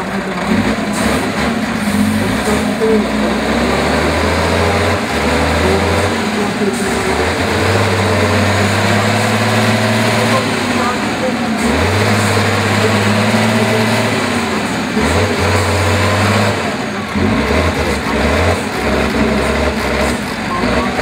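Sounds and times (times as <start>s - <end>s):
diesel truck engine under load: 0.0s - 21.0s.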